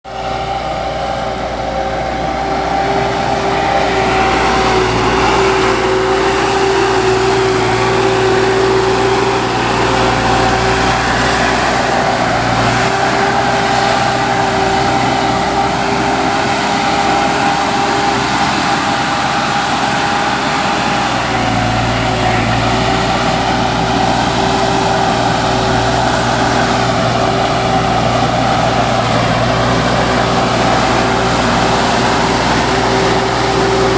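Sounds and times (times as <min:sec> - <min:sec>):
heavy diesel machinery running: 0:00.0 - 0:33.9
constant whine: 0:00.1 - 0:33.9.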